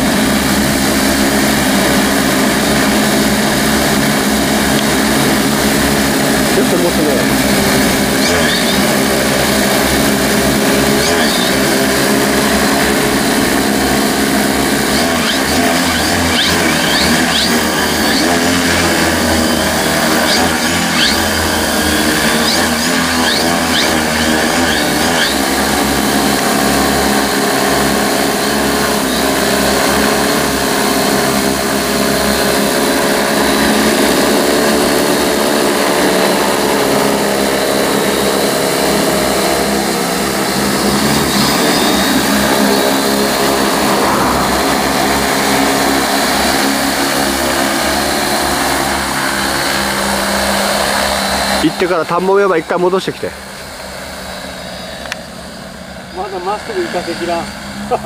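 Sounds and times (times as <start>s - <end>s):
drone rotors droning: 0.0s - 58.0s.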